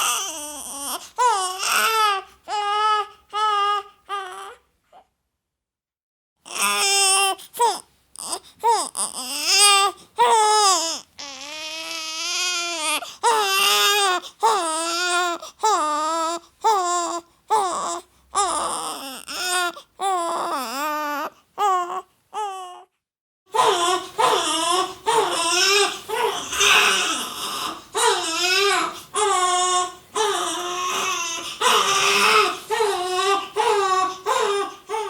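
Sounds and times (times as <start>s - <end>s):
baby crying: 0.0s - 5.1s, 6.5s - 22.9s, 23.5s - 35.0s.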